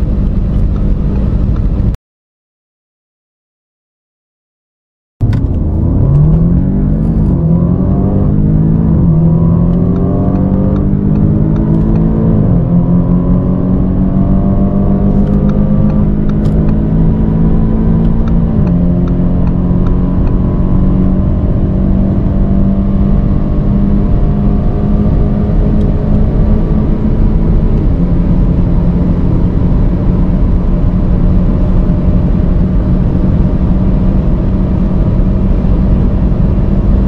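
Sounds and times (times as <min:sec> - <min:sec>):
sports car engine accelerating: 0:05.2 - 0:37.0.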